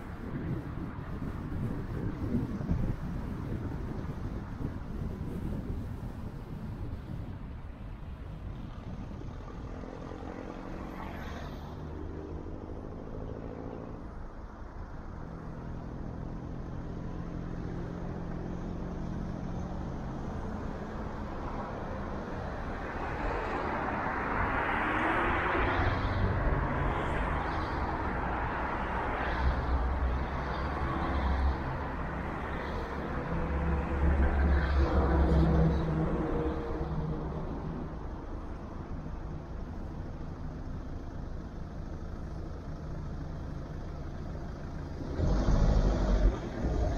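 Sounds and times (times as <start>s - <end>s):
car engine hum: 0.0s - 46.9s
tyre and road noise: 0.0s - 46.9s.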